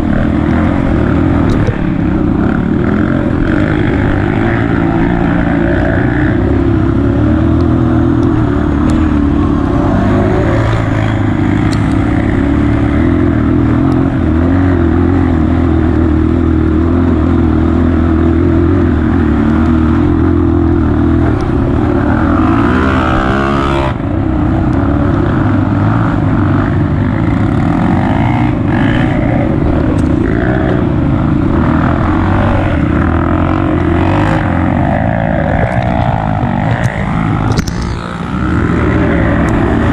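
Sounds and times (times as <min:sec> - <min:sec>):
trail bike engine running: 0:00.0 - 0:39.9.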